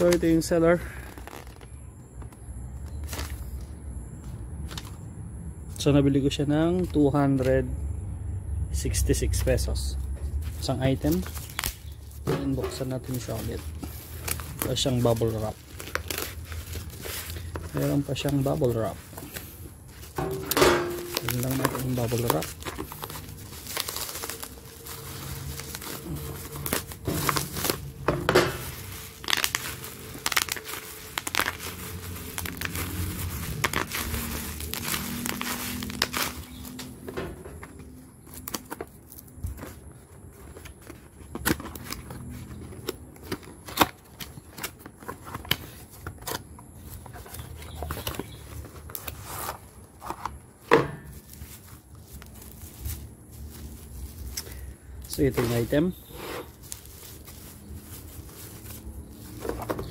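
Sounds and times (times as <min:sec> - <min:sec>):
bubble wrap crinkling: 0:00.0 - 0:03.8, 0:10.3 - 0:59.9.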